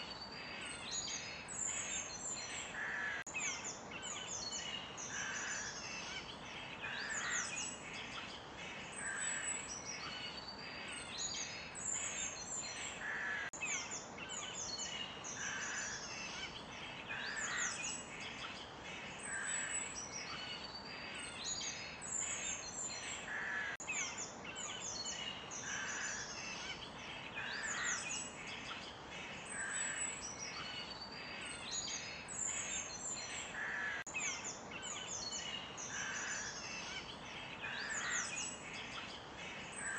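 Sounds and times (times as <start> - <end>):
birds singing and chirping: 0.0 - 39.9
steady background hiss: 0.0 - 39.9.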